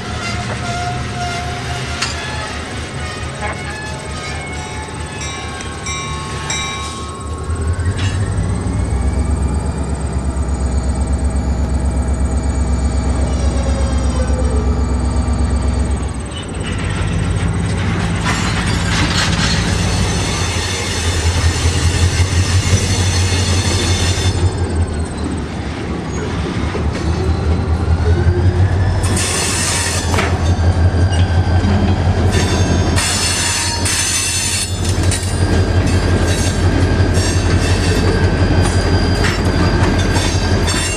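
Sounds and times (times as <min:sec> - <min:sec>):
diesel locomotive engine rumbling: 0:00.0 - 0:40.9.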